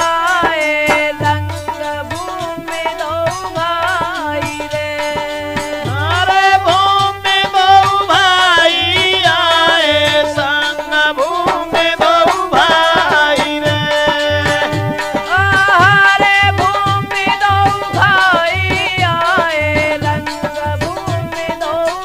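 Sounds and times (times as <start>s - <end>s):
hand drum beating: 0.4s - 10.6s, 11.3s - 22.0s.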